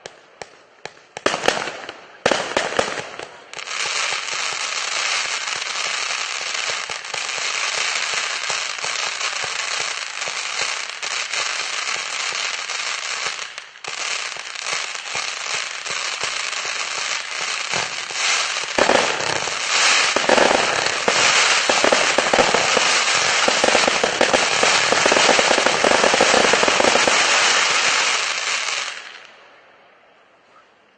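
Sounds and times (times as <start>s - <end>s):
firework cake crackling shots: 0.0s - 29.2s.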